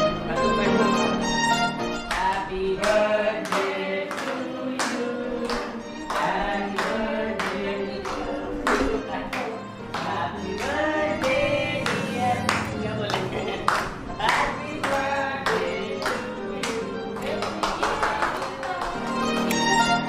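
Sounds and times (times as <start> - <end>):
music with singing: 0.0 - 20.0
people clapping in a steady beat: 2.0 - 20.0.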